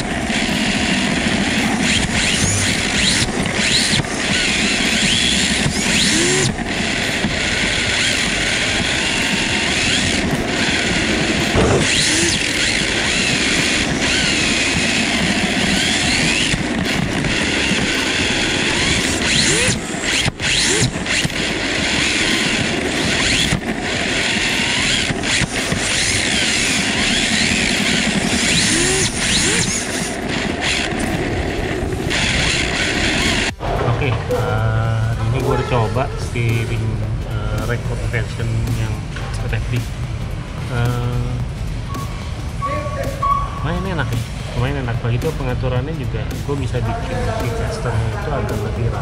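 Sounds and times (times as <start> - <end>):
electric motor whining: 0.0 - 45.4
tyres sliding and drivetrain rush: 0.0 - 49.0.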